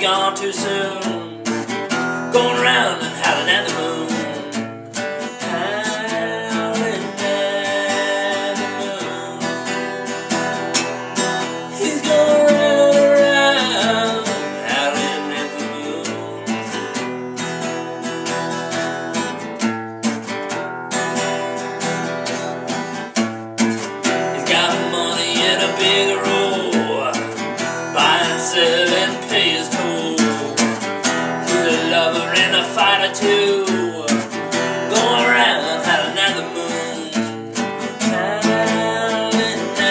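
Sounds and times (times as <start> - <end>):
man singing: 0.0 - 19.4, 24.0 - 39.9
acoustic guitar strumming: 0.0 - 39.9.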